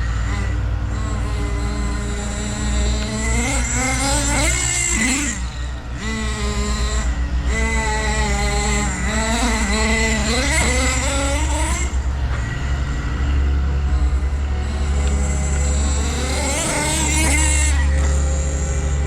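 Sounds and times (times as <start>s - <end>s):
small glow engine revving: 0.0s - 19.0s.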